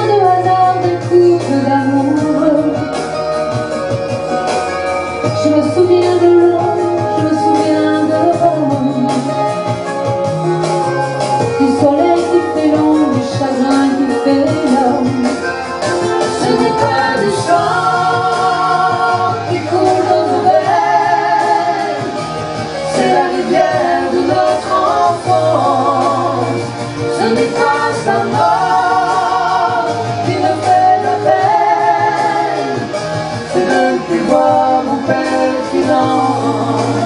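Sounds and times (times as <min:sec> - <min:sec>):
man and woman singing duet: 0:00.0 - 0:03.3, 0:05.2 - 0:09.9, 0:11.5 - 0:37.0
recorded backing music: 0:00.0 - 0:37.0.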